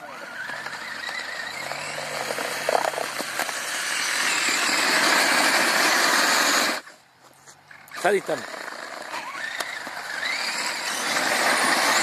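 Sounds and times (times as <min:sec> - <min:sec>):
toy truck motor whine: 0:00.0 - 0:07.0, 0:07.7 - 0:12.0.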